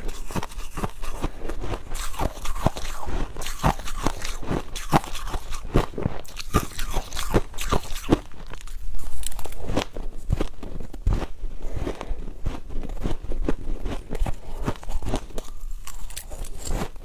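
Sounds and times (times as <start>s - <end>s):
ice being chewed: 0.0s - 17.0s.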